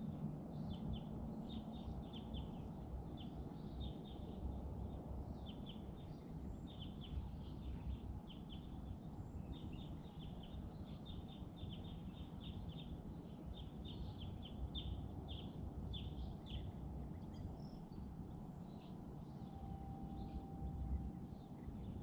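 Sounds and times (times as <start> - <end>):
low background rumble: 0.0 - 22.0
small birds chirping: 0.6 - 22.0.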